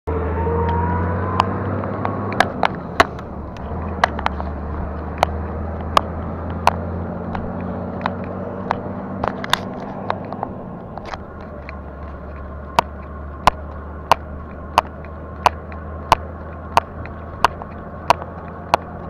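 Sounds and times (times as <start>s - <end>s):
low motor hum: 0.1s - 19.0s
wind and tyre noise: 0.1s - 19.0s.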